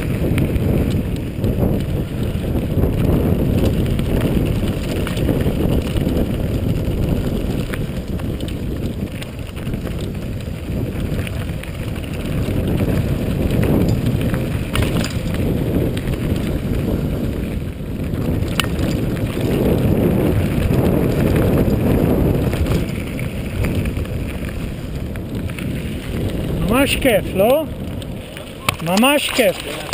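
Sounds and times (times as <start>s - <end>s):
bike clicks and rattles: 0.0s - 29.9s
tyres rolling over stones: 0.0s - 29.9s
wind buffeting microphone: 0.0s - 29.9s.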